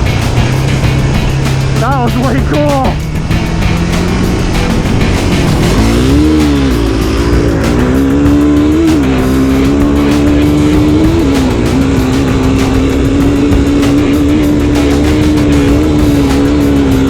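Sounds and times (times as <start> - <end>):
off-road vehicle engine: 0.0 - 17.0.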